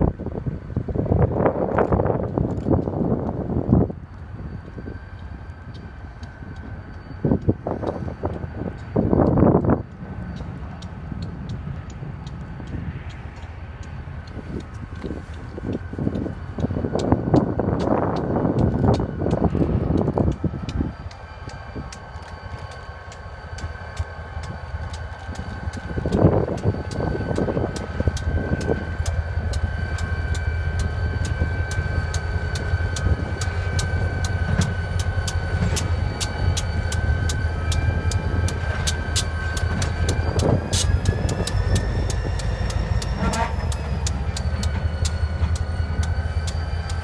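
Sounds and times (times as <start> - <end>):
diesel locomotive engine hum: 0.0 - 47.0
high whine: 0.0 - 47.0
regular ticking: 0.6 - 47.0.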